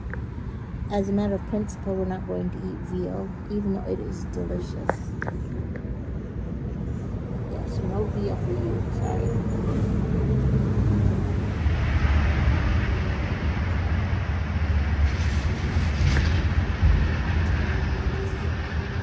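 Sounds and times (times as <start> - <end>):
low rumble of vehicle traffic: 0.0 - 19.0
vehicle passing: 0.0 - 19.0.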